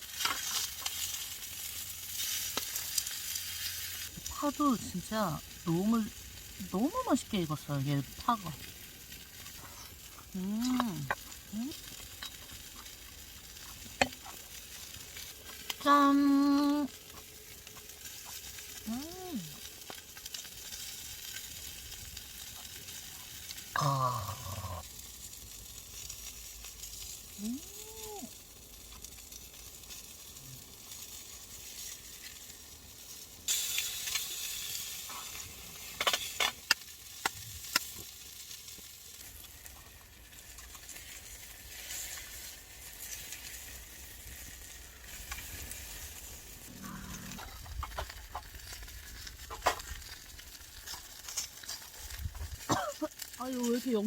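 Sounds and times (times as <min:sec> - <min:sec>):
meat sizzling on grill plate: 0:00.0 - 0:54.0.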